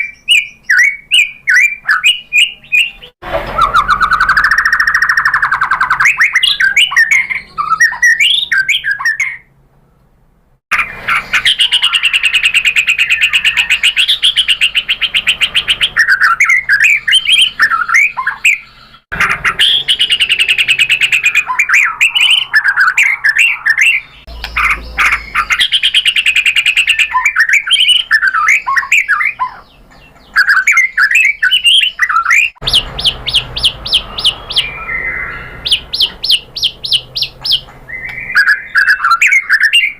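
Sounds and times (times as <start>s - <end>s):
songbird whistling and trilling: 0.0s - 9.5s, 10.8s - 39.9s.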